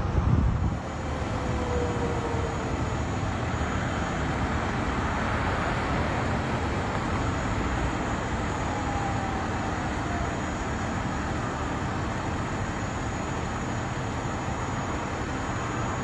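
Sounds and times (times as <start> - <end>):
low rumble of traffic and engines: 0.0 - 16.0
sirens sliding in pitch: 0.8 - 16.0.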